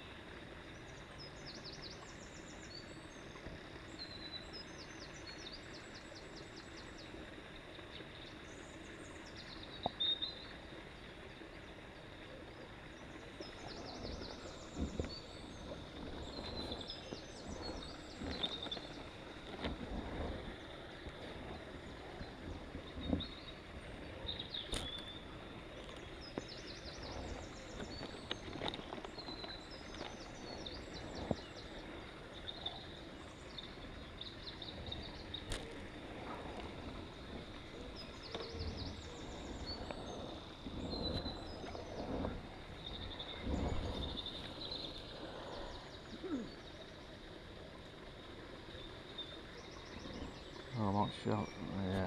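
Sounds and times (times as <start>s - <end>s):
small birds chirping: 0.0s - 52.0s
wind rumble on microphone: 0.0s - 52.0s.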